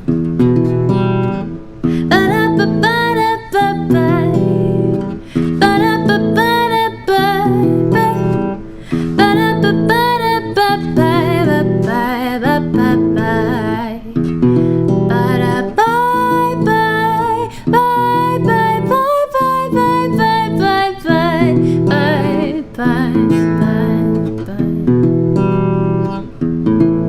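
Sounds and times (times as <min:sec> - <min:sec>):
strummed acoustic guitar: 0:00.0 - 0:27.0
woman singing: 0:01.9 - 0:25.2.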